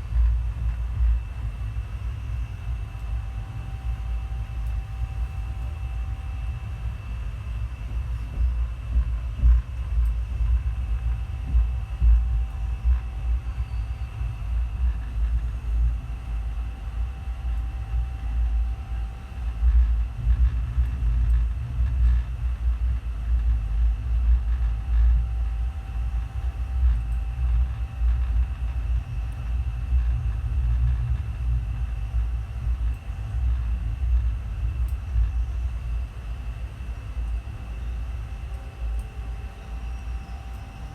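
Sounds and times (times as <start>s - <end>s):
faint whine tones: 0.0s - 40.9s.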